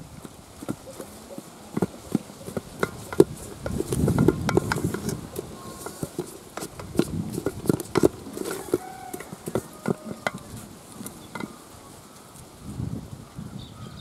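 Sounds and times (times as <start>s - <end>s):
wooden spoon scraping a pot: 0.0s - 11.7s.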